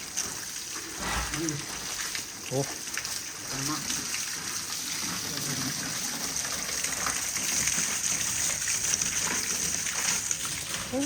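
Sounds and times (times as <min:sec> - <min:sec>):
running water gushing: 0:00.0 - 0:11.0.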